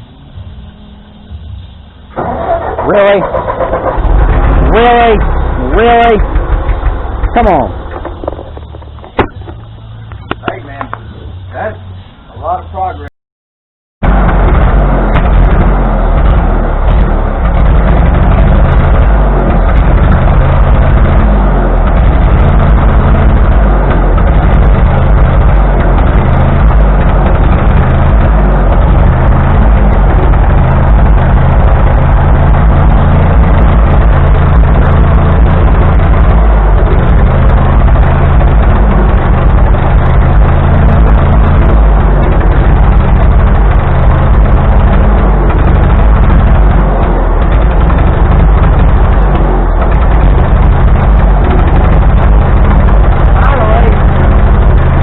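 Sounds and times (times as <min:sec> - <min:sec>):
tractor engine running: 0:00.0 - 0:13.1, 0:14.0 - 0:55.0.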